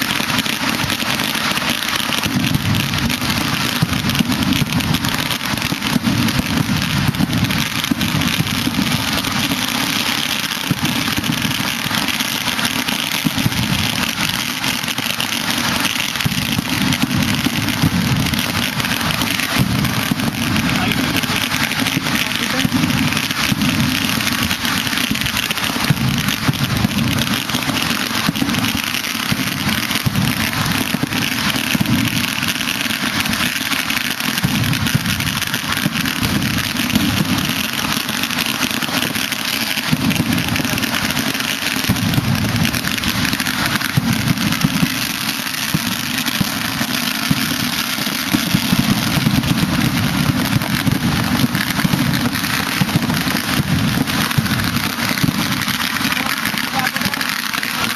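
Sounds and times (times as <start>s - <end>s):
fireworks crackling: 0.0s - 57.9s
sharp firework bangs: 0.0s - 57.9s.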